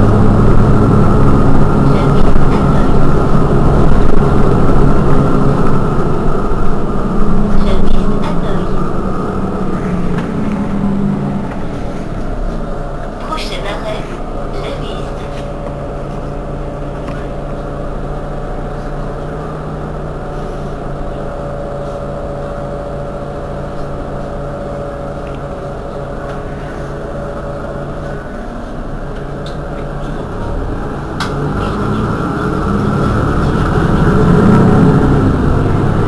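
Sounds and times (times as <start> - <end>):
bus engine idling: 0.0 - 36.0.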